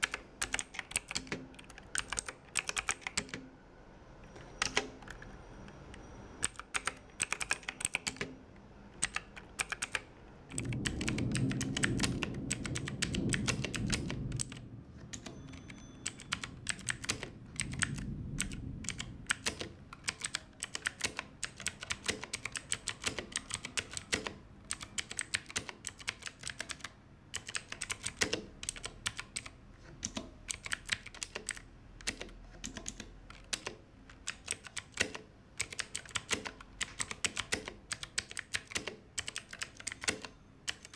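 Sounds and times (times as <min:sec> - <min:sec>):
clicky mechanical keyboard typing: 0:00.0 - 0:03.5, 0:04.2 - 0:40.9.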